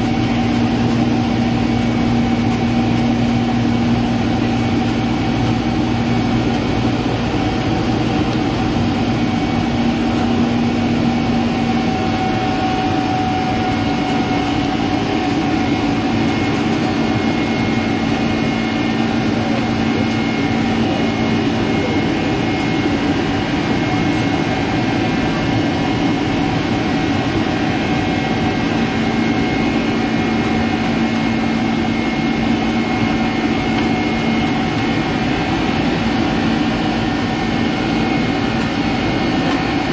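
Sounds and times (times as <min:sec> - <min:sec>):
airplane cabin engine drone: 0:00.0 - 0:39.9
humming and whining tones: 0:00.0 - 0:39.9.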